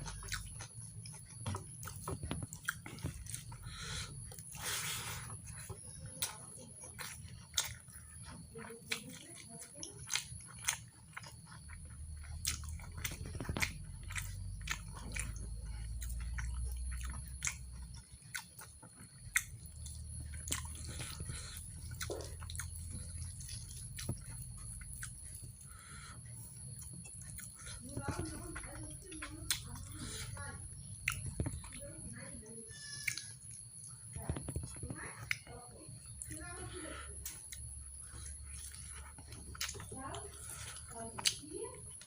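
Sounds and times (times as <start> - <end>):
person chewing with mouth clicks: 0.0 - 42.0.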